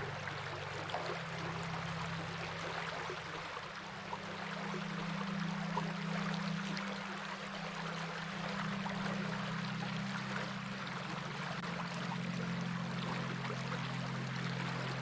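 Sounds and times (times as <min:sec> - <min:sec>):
low steady hum: 0:00.0 - 0:15.0
stream water running: 0:00.0 - 0:15.0.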